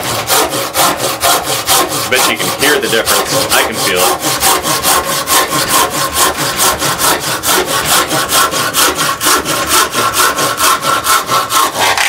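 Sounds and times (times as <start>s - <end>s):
pull saw rasping through log: 0.0s - 12.0s.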